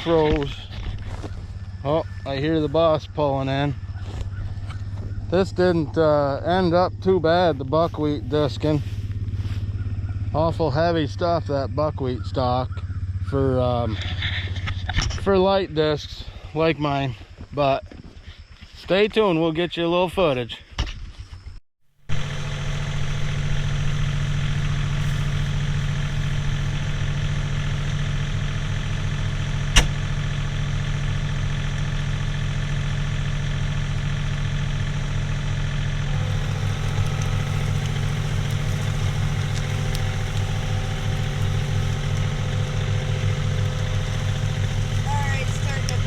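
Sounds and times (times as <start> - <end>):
tractor diesel engine running: 0.0 - 17.5, 22.0 - 46.0.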